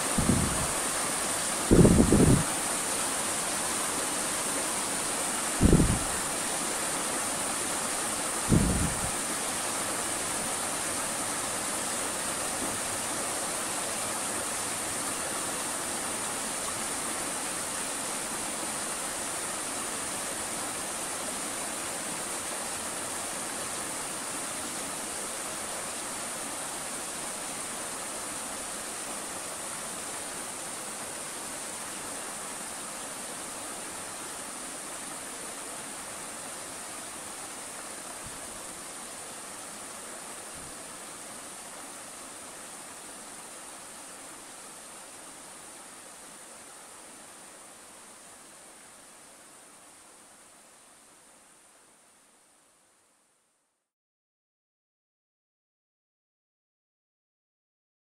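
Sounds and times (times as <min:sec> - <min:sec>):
stream running over rocks: 0:00.0 - 0:52.4.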